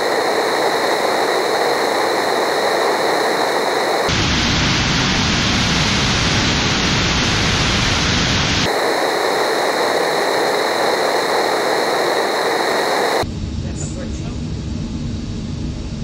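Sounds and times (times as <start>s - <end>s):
rocket engine rushing: 0.0s - 14.4s.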